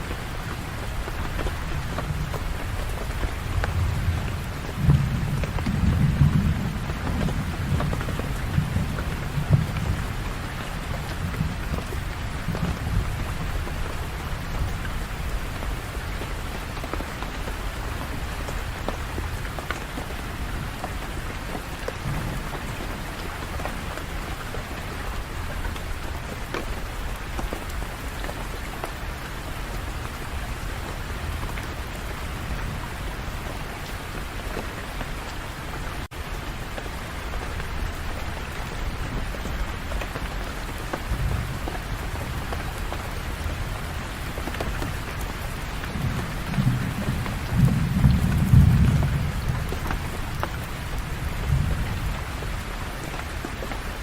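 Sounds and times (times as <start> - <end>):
heavy rain on hard surfaces: 0.0 - 54.0.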